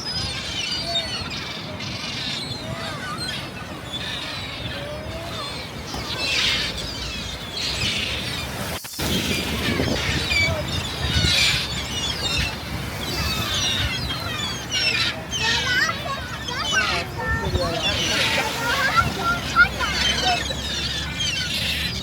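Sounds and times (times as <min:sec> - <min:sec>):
seagulls calling: 0:00.0 - 0:22.0.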